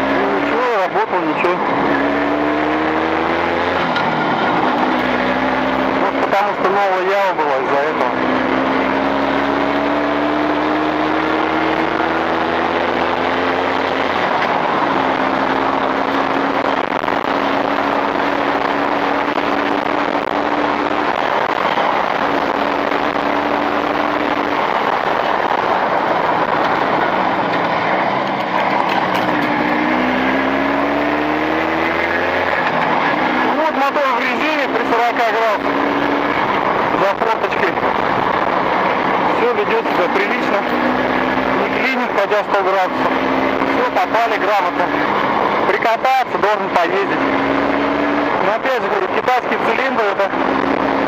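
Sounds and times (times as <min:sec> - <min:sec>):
two-stroke motorcycle engine running: 0:00.0 - 0:51.0.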